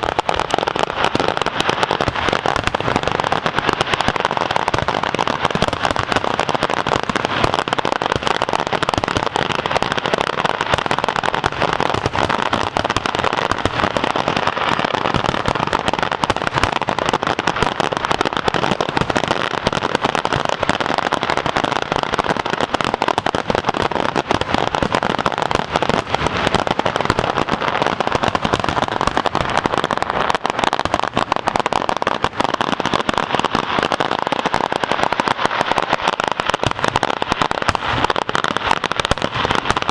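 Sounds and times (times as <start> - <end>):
fireworks barrage of bangs: 0.0 - 39.9.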